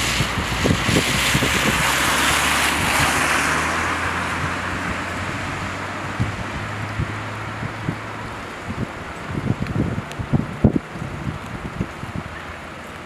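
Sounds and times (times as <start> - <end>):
wind thumps on microphone: 0.0 - 12.3
falling rain: 0.0 - 13.0
low engine hum: 0.0 - 13.0
tyres hissing on wet road: 0.0 - 13.0.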